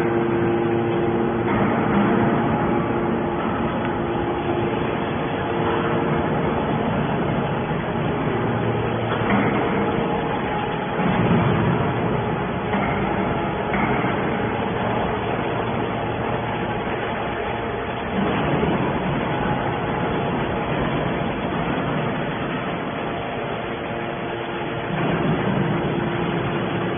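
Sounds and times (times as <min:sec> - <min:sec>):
hydraulic baler humming: 0:00.0 - 0:26.9.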